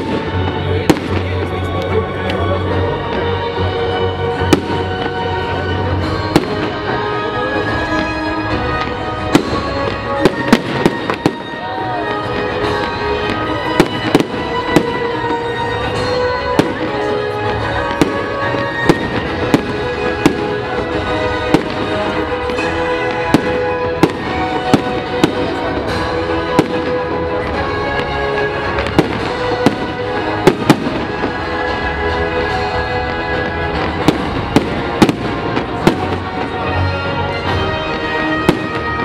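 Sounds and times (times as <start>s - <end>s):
fireworks bursting with sharp bangs: 0.0s - 39.0s
music playing: 0.0s - 39.0s.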